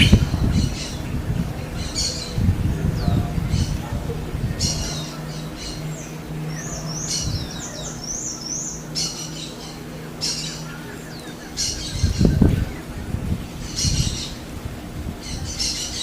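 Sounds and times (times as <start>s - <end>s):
birds calling hissy high calls: 0.0s - 16.0s
low rumble: 0.0s - 16.0s.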